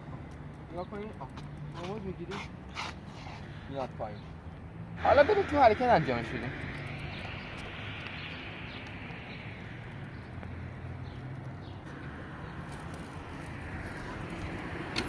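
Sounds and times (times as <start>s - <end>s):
low hum of street ambience: 0.0s - 15.0s.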